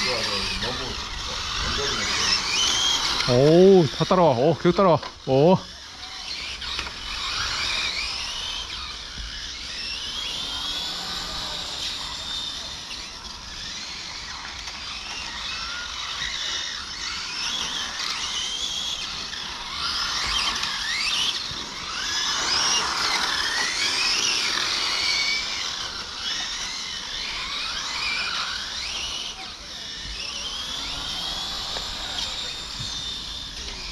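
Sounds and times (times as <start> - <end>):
rc car motors whining: 0.0 - 33.9.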